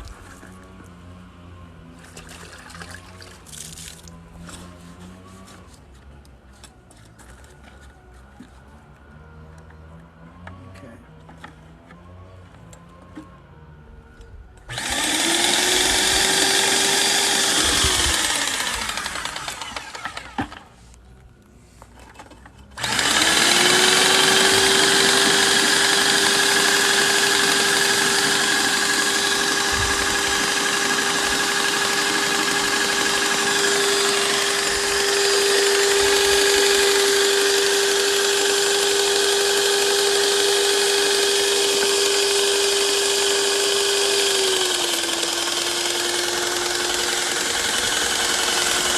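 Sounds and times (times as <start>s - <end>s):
paint sprayer pump motor whine: 6.6s - 21.2s, 22.7s - 48.9s.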